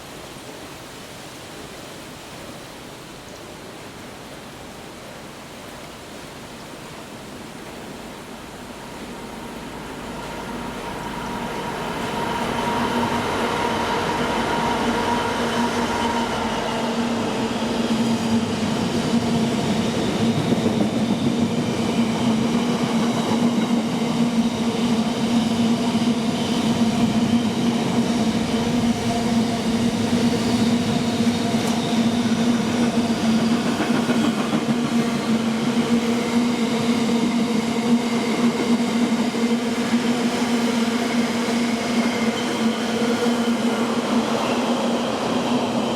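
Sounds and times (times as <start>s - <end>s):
train hum: 7.6s - 45.9s.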